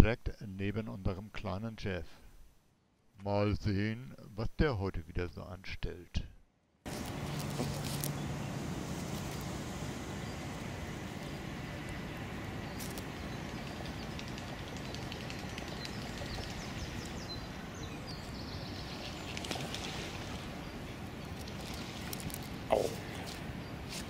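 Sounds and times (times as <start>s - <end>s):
low rumble and hiss: 0.0s - 24.0s.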